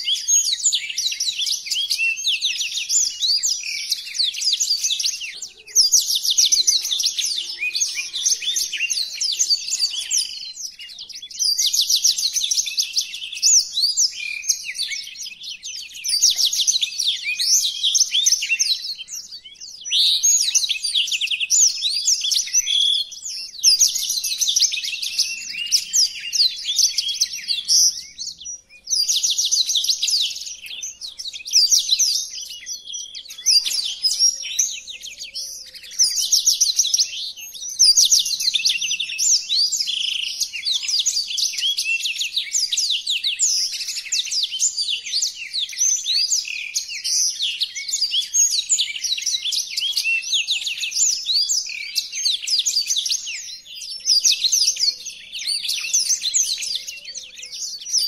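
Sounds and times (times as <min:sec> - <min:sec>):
canary singing trills and chirps: 0:00.0 - 0:58.0.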